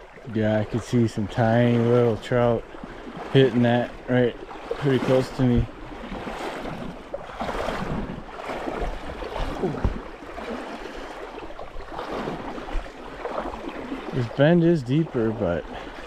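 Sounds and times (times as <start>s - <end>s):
river water splashing and rushing: 0.0s - 16.0s.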